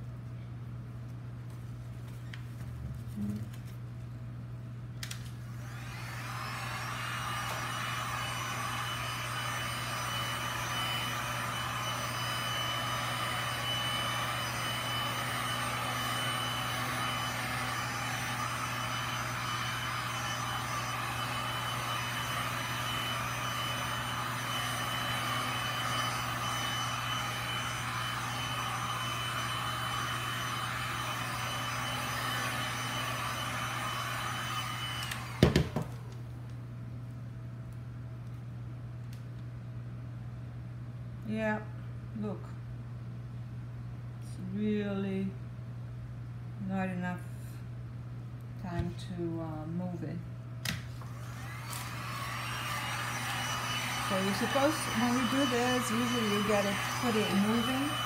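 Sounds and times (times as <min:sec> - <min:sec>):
heat gun fan whine: 0:00.0 - 0:41.6, 0:43.6 - 0:58.0.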